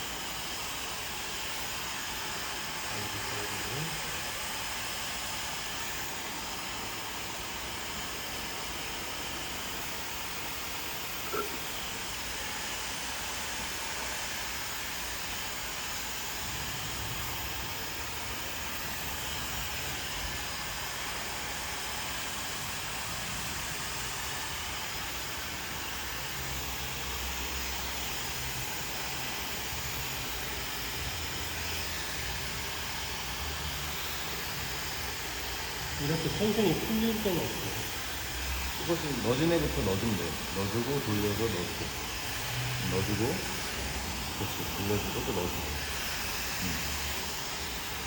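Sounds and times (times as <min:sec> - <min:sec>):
hair dryer blowing air: 0:00.0 - 0:48.0.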